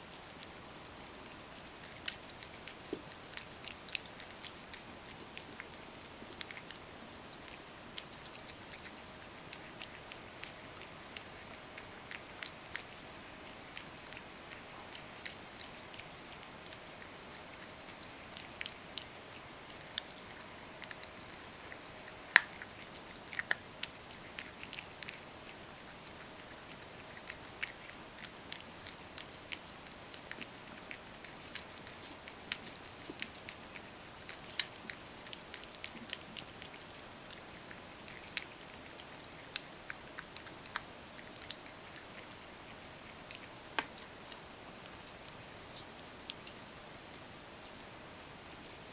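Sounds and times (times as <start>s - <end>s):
cat chewing and licking: 0.0s - 48.9s
faint steady hiss: 0.0s - 48.9s.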